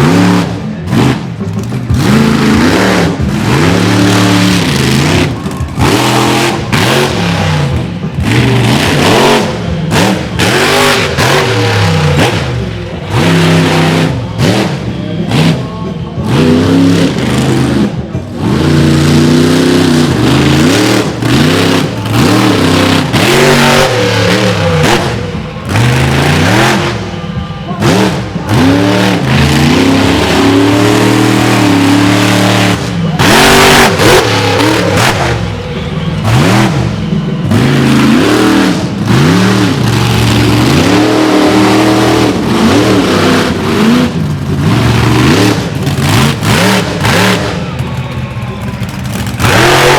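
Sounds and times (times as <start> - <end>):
monster truck engine revving: 0.0 - 49.9.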